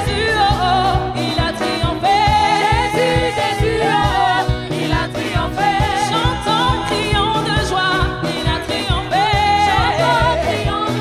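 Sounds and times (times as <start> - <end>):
choir singing: 0.0 - 11.0
keyboard: 0.0 - 11.0
woman singing lead: 0.0 - 11.0.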